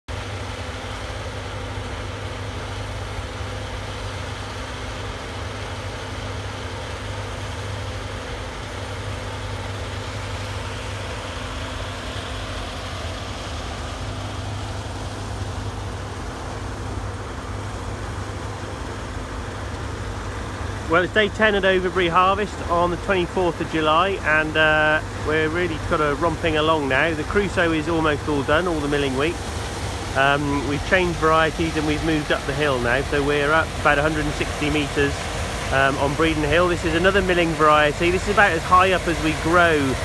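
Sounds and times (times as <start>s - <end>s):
farm machinery engine droning: 0.1s - 40.0s.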